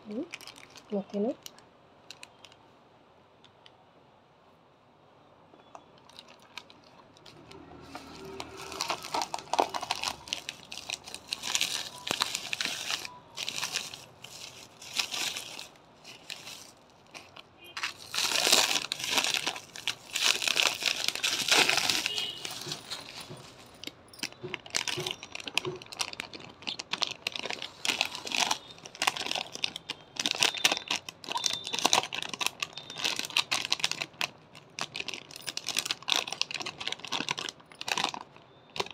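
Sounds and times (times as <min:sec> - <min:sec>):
plastic packaging crinkling: 0:00.1 - 0:02.6, 0:05.7 - 0:38.9.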